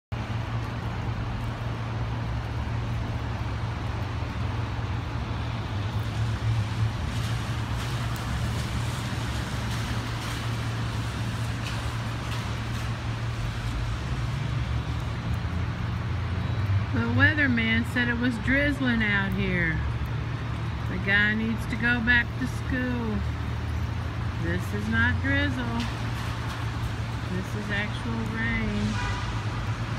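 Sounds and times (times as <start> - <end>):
city traffic hum: 0.1 - 29.9
rain on wet pavement: 0.1 - 29.9.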